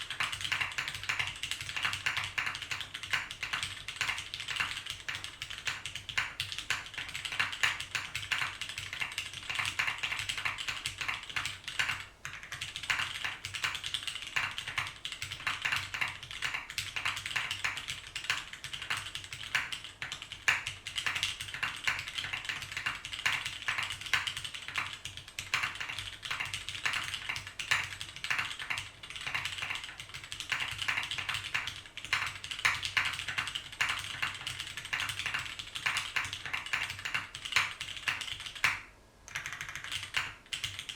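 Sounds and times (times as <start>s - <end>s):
mechanical keyboard key clacks: 0.0s - 40.9s.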